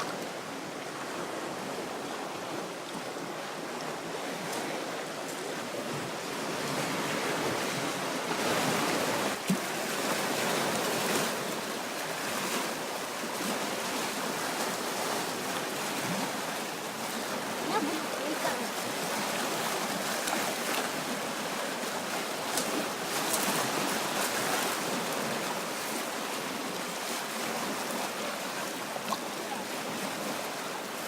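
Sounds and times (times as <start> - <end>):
waves washing onto shore: 0.0 - 31.0.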